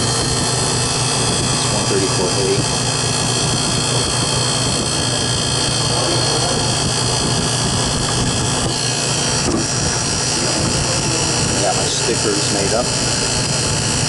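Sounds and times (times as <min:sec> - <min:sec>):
compressor humming: 0:00.0 - 0:14.0
condenser fan air noise: 0:00.0 - 0:14.0.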